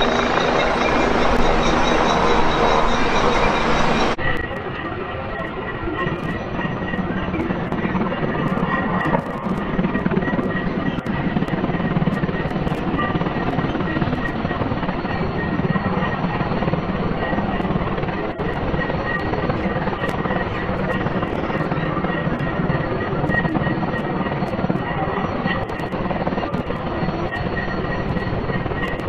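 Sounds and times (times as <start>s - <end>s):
helicopter rotor noise: 0.0s - 29.0s
helicopter turbine engine whine: 0.0s - 29.0s.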